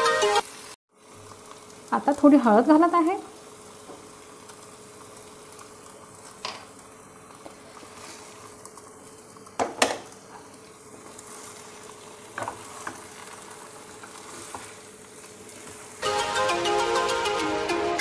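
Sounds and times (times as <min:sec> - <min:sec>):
chicken sizzling in oil: 0:00.0 - 0:16.9.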